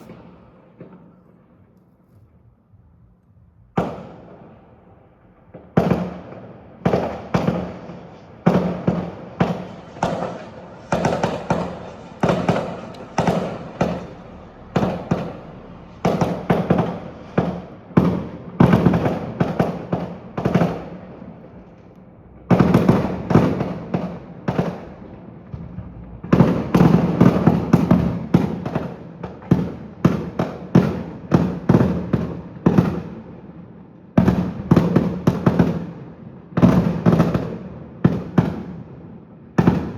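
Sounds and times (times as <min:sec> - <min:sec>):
fireworks bursting: 0:00.0 - 0:02.4, 0:03.6 - 0:33.3, 0:34.2 - 0:39.9.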